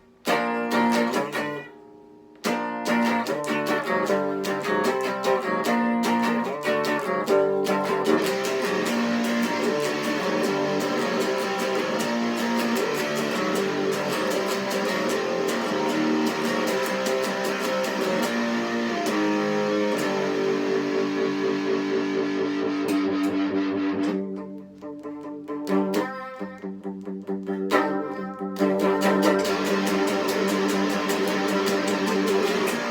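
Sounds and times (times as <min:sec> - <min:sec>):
electric guitar through amplifier: 0:00.0 - 0:32.9.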